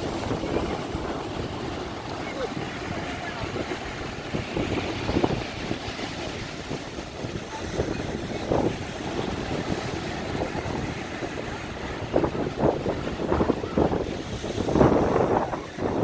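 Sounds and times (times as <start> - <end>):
waves breaking on sandy beach: 0.0 - 16.0
wind blowing on microphone: 0.0 - 16.0.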